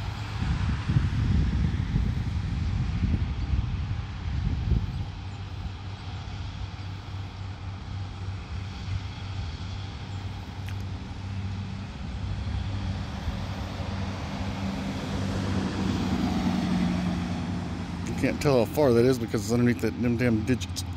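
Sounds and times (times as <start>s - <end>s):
vehicle engine idling: 4.1s - 20.9s.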